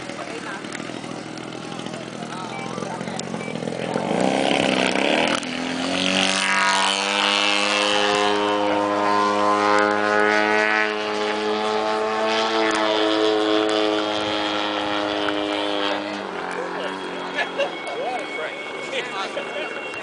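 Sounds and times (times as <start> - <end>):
model airplane engine drone: 0.0 - 20.0.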